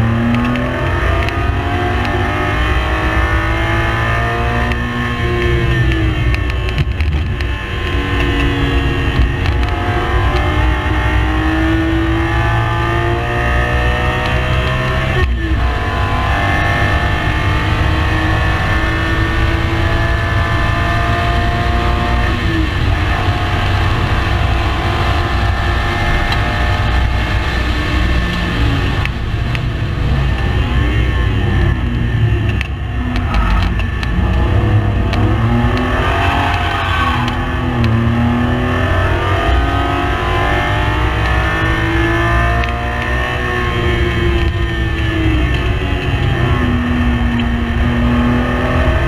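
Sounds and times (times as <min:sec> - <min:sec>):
gear upshifts: 0:00.0 - 0:49.0
race car engine accelerating: 0:00.0 - 0:49.0.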